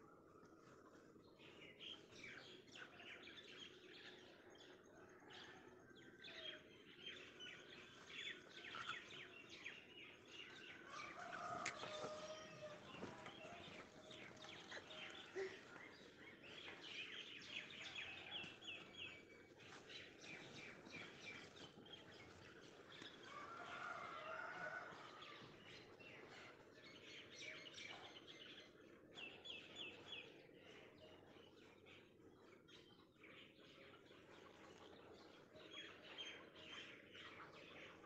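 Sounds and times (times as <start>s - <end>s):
faint birds chirping: 0.0s - 38.0s.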